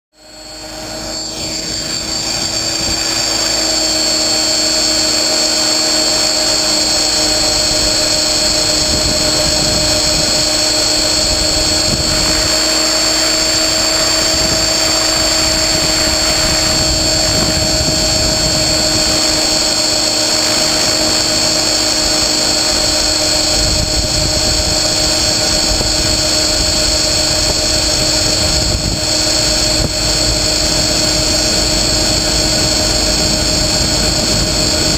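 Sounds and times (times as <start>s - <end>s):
helicopter motor and rotors whining: 0.1s - 34.9s.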